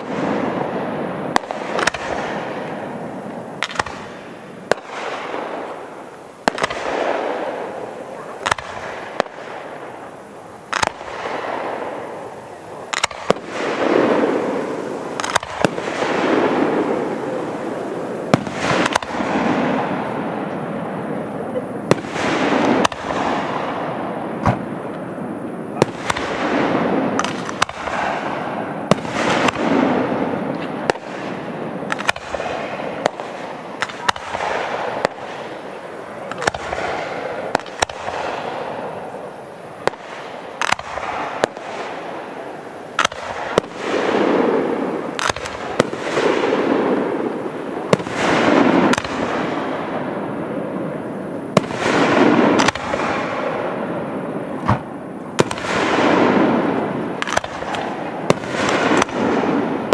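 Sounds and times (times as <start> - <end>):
fireworks bangs: 0.0 - 59.9
rushing fireworks noise: 0.0 - 59.9.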